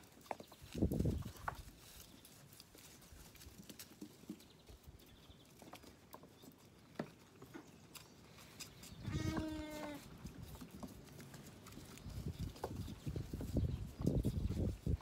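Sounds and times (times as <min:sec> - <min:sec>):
hooves stepping on straw and boards: 0:00.0 - 0:15.0.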